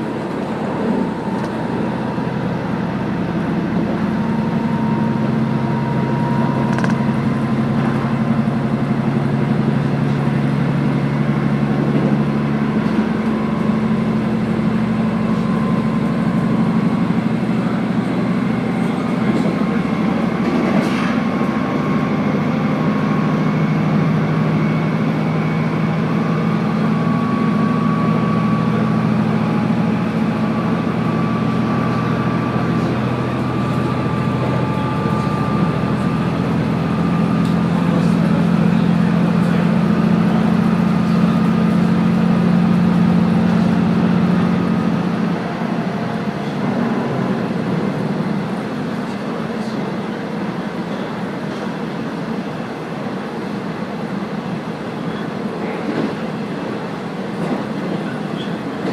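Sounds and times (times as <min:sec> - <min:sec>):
train engine drone: 0:00.0 - 0:58.9.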